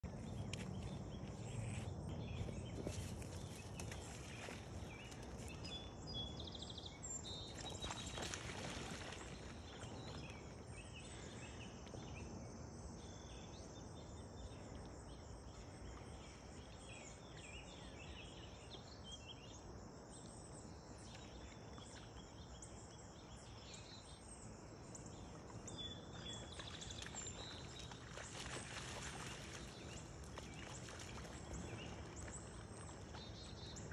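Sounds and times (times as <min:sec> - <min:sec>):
high insect hum: 0:00.1 - 0:33.9.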